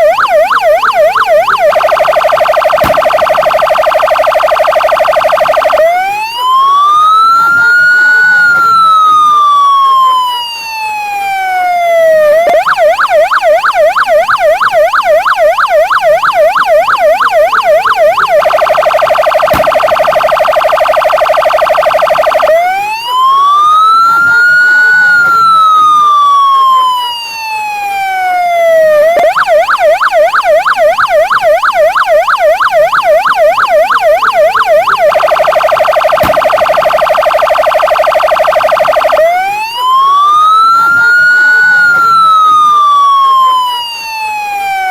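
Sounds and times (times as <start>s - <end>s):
police car siren: 0.0s - 44.9s.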